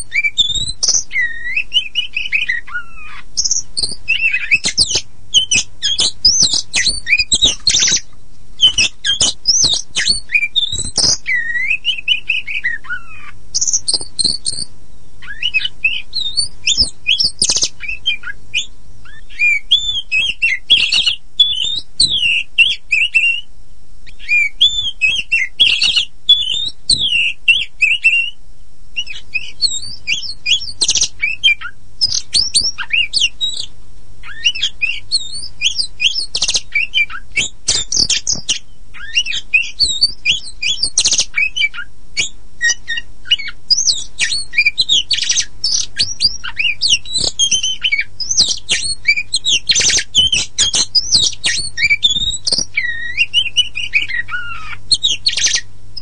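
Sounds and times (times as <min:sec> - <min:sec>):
bird singing varied song: 0:00.0 - 0:28.4, 0:29.0 - 0:56.0
faint steady hum: 0:00.0 - 0:56.0.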